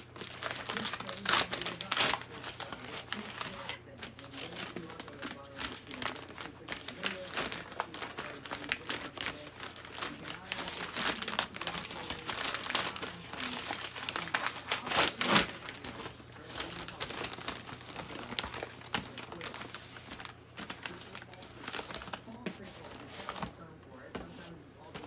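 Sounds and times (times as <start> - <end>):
packaging crinkling and rustling: 0.0 - 25.0.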